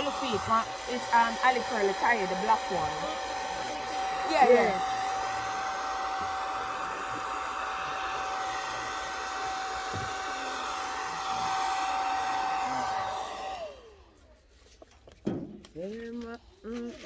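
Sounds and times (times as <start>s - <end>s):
hair dryer running: 0.0s - 14.2s.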